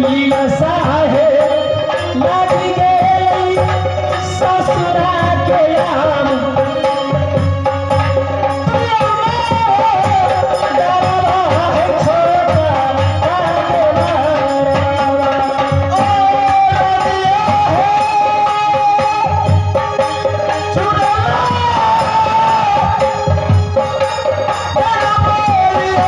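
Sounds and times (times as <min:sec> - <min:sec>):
regular drum beat: 0:00.0 - 0:26.0.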